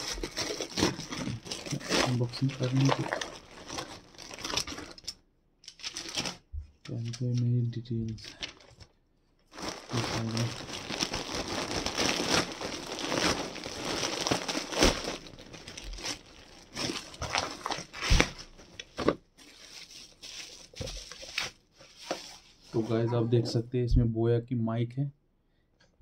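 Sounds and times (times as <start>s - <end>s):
packaging crinkling and rustling: 0.0s - 7.2s, 8.0s - 22.8s.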